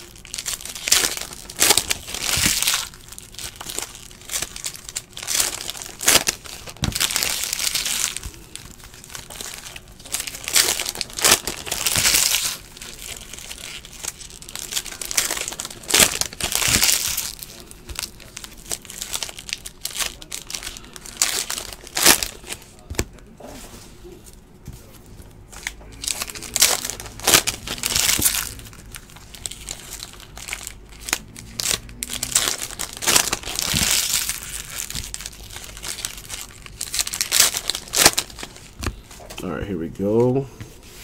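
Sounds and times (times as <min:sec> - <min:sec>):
foil wrappers tearing and crinkling: 0:00.0 - 0:23.2, 0:25.5 - 0:39.3.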